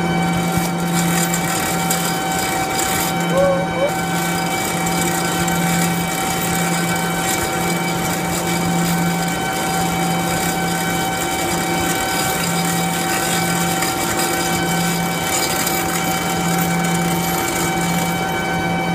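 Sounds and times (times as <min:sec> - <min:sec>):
low wavering hum: 0:00.0 - 0:18.9
machinery humming: 0:00.0 - 0:18.9.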